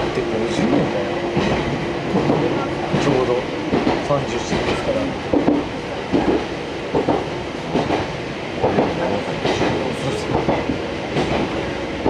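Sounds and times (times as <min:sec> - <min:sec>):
train wheels rumbling on rail: 0:00.0 - 0:12.0
wheels clacking over rail joints: 0:00.5 - 0:11.6.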